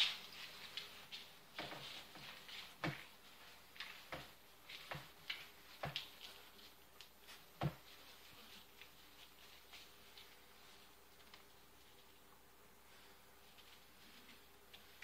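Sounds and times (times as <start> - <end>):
puppies rustling in shavings: 0.0 - 12.3, 12.9 - 15.0.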